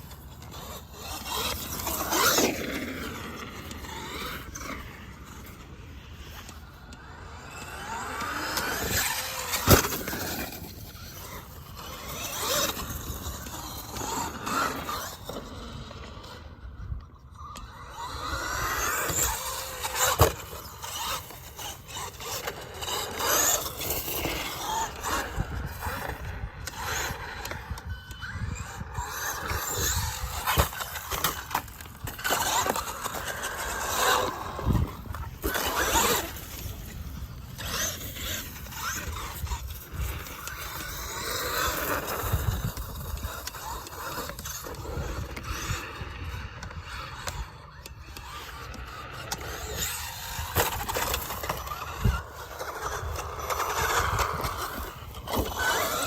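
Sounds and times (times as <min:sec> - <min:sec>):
remote control car motor: 0:00.0 - 0:56.0.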